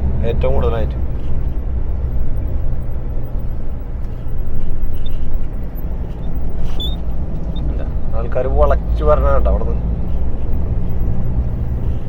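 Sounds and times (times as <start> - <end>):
road noise: 0.0 - 12.0
truck diesel engine rumble: 0.0 - 12.0.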